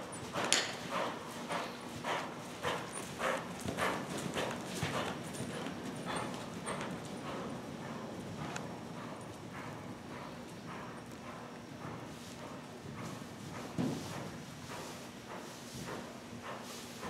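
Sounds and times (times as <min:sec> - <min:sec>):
horse hoofbeats cantering: 0:00.0 - 0:17.0.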